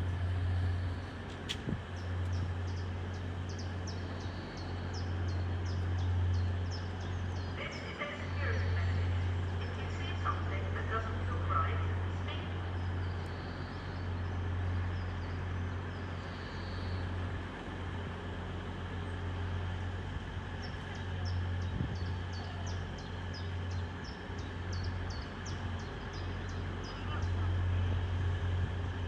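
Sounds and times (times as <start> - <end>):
train rumbling at a station: 0.0 - 29.0.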